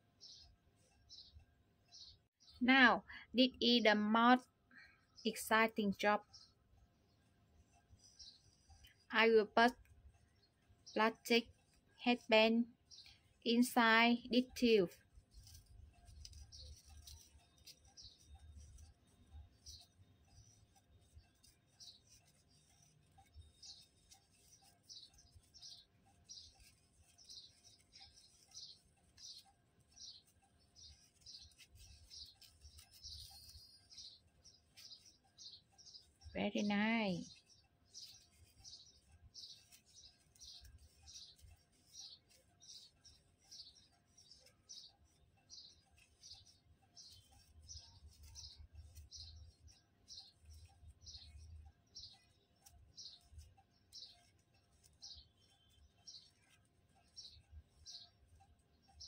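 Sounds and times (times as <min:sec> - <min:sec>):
high bird chirps: 0:08.0 - 0:59.0.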